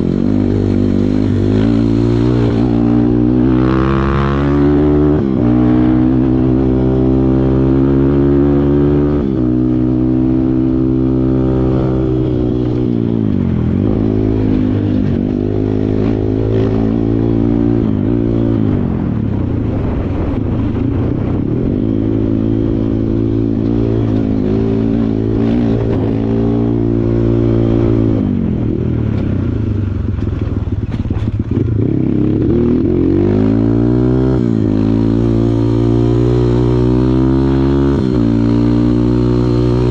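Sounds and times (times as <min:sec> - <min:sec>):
dirt bike engine revving: 0:00.0 - 0:20.4, 0:21.3 - 0:28.8, 0:31.2 - 0:39.9.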